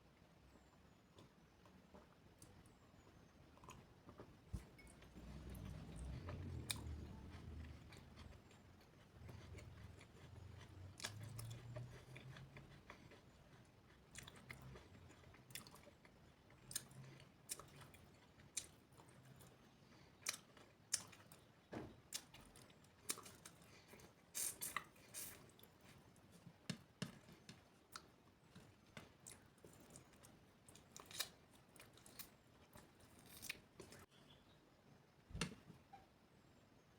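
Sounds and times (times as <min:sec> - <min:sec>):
person chewing crunchy food: 0:03.6 - 0:34.1.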